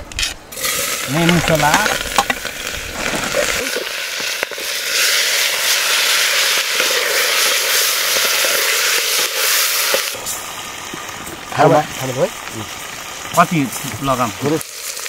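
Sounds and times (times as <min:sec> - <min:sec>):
oil crackling pops: 0:00.1 - 0:15.0
food sizzling in hot oil: 0:00.5 - 0:15.0.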